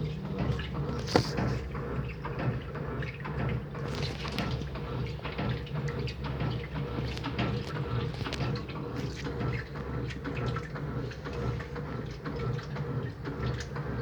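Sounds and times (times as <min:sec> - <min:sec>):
washing machine motor hum: 0:00.0 - 0:14.0
water sloshing in tub: 0:00.3 - 0:14.0.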